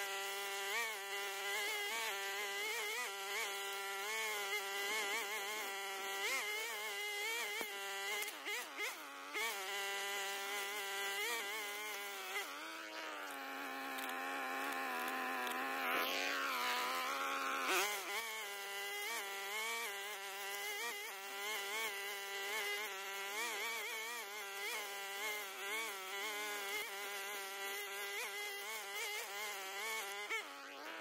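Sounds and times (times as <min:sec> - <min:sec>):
string trimmer cutting grass: 0:00.0 - 0:31.0.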